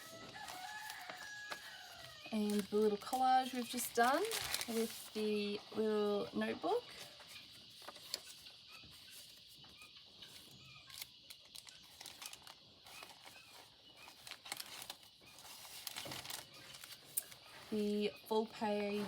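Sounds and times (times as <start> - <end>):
paper pages rustling: 0.0 - 5.2, 6.9 - 9.4, 10.3 - 17.9.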